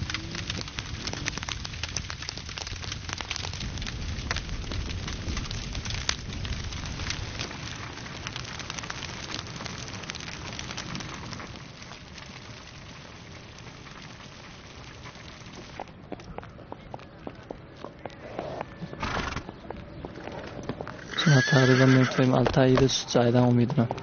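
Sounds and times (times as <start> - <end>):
grass fire crackling: 0.0 - 24.0.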